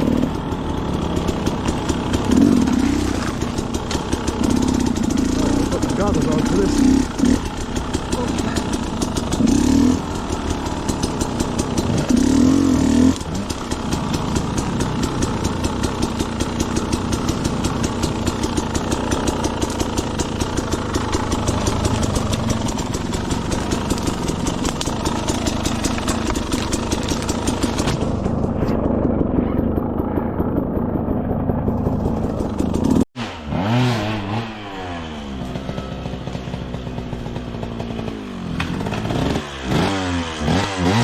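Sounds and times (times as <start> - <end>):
dirt bike engine idling: 0.0 - 41.0.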